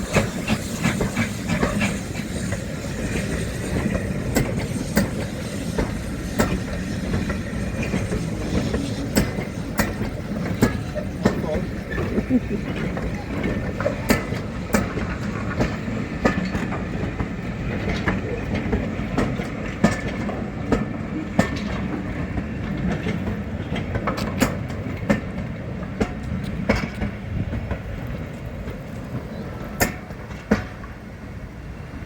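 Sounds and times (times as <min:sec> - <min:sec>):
diesel locomotive rumbling: 0:00.0 - 0:32.0.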